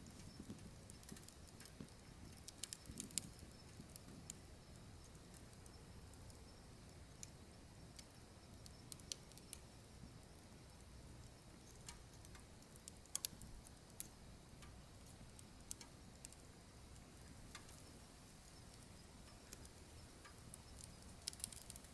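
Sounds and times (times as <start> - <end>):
firewood crackling and popping: 0.0 - 21.9.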